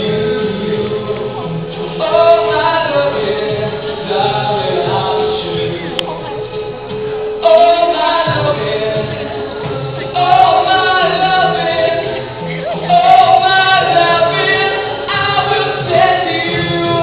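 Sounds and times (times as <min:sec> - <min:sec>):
lead voice singing: 0:00.0 - 0:17.0
sung backing harmonies: 0:00.0 - 0:17.0.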